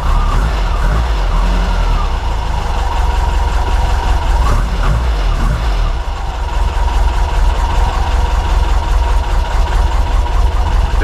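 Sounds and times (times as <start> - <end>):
flat-four engine running: 0.0 - 11.0.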